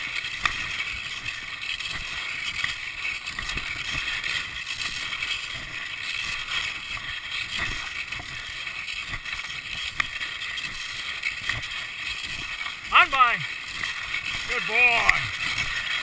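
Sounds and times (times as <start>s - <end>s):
skis scraping over snow: 0.0s - 16.0s.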